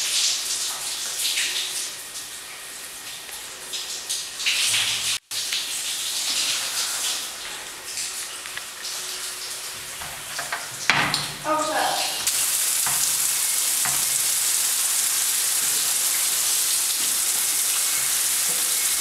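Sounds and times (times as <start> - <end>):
running water hissing: 0.0 - 19.0.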